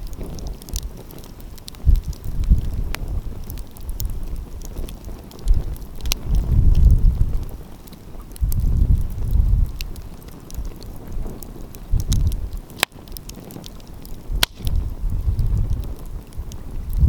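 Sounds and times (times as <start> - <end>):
sharp snaps of fire: 0.0 - 17.0
wind rumbling on microphone: 0.0 - 17.0
wood fire crackling: 0.0 - 17.0.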